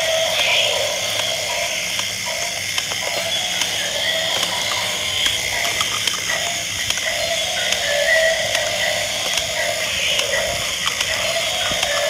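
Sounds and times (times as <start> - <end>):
toy gears clicking and whirring: 0.0 - 12.0.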